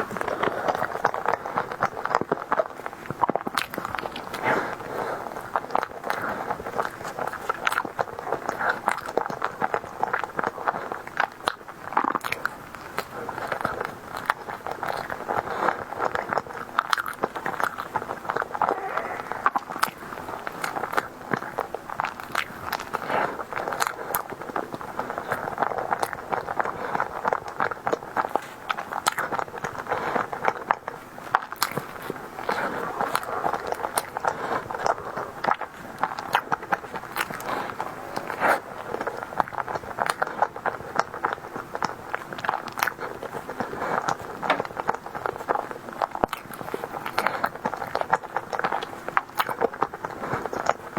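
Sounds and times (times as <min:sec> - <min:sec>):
chewing dessert: 0:00.0 - 0:50.9
mouth clicks and crackles: 0:00.0 - 0:50.9.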